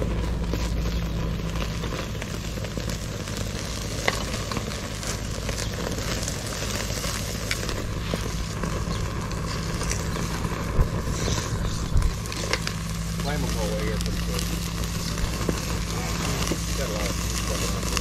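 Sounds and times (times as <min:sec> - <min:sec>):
fire crackling and popping: 0:00.0 - 0:18.0
steaks sizzling on a grill: 0:00.0 - 0:18.0.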